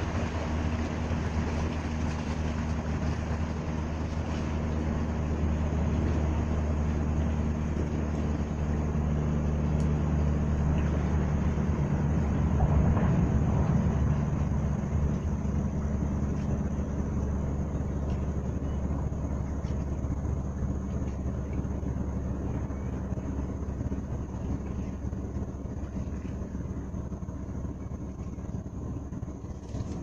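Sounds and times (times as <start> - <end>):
tugboat diesel engine drone: 0.0 - 30.0.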